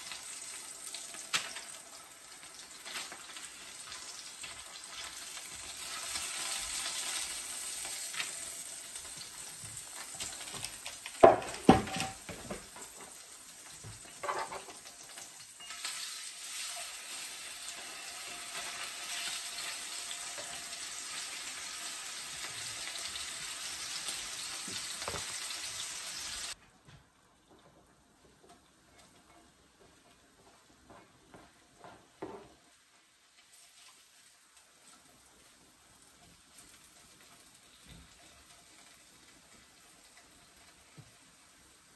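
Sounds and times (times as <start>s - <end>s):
chicken sizzling in hot oil: 0.0s - 26.6s, 32.2s - 41.9s.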